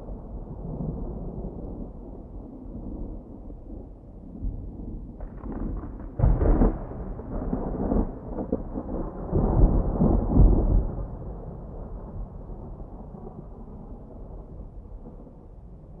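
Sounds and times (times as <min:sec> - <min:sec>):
thunder: 0:00.0 - 0:16.0.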